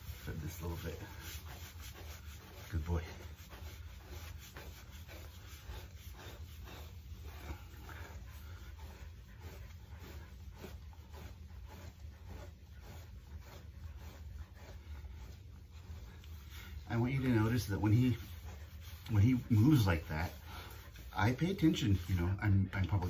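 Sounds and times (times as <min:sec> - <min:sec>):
brush rubbing through fur: 0:00.0 - 0:23.0.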